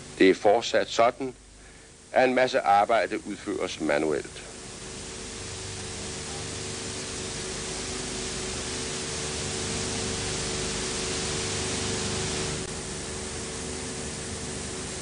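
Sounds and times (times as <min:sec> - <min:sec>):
low steady hum: 0:00.0 - 0:15.0
recording hiss: 0:00.0 - 0:15.0.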